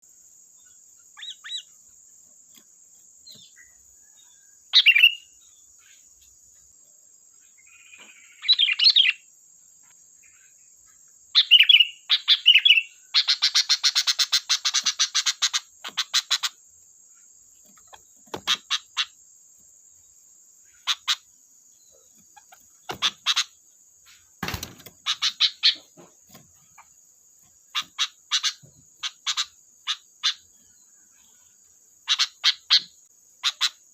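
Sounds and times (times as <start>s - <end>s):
bird chirps: 0.4s - 33.9s.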